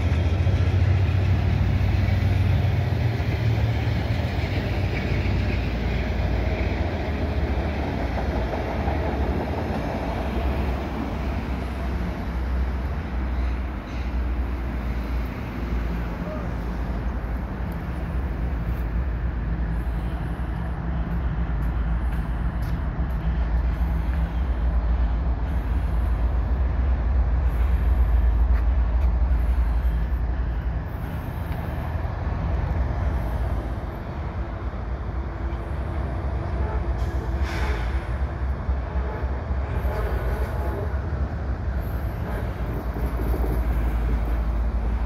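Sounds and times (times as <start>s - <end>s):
diesel locomotive engine rumble: 0.0s - 45.0s.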